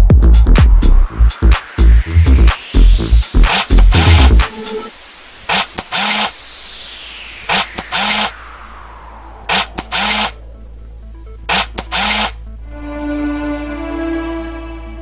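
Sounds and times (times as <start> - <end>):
electronic music: 0.0 - 15.0.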